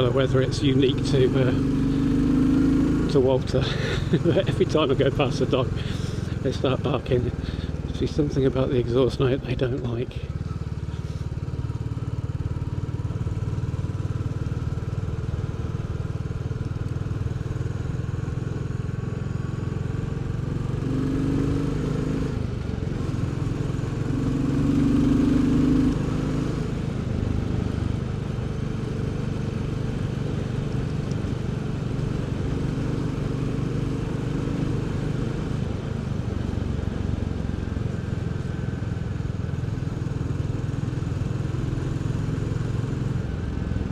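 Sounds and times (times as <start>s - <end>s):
motorcycle engine and exhaust: 0.0s - 43.9s.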